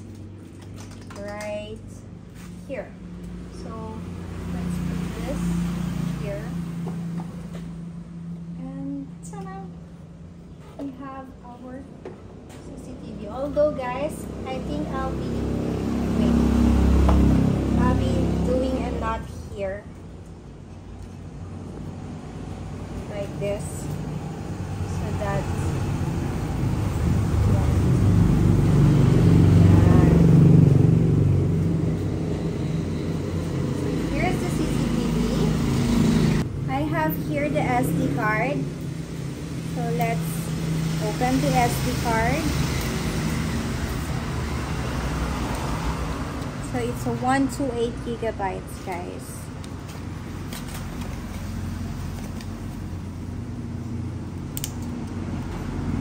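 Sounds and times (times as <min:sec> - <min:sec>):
vehicle engine running: 0:00.0 - 0:20.0, 0:21.4 - 0:56.0
low motor hum: 0:00.0 - 0:56.0.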